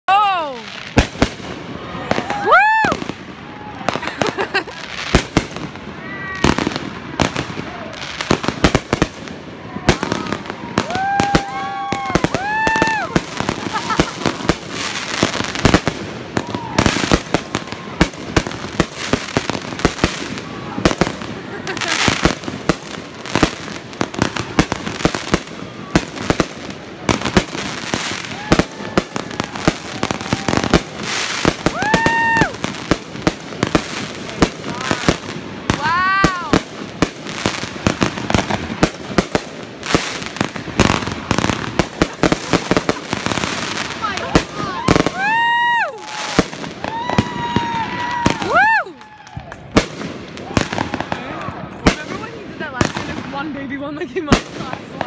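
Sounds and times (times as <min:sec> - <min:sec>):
fireworks crackling: 0:00.1 - 0:55.0
fireworks bursting: 0:00.4 - 0:55.0.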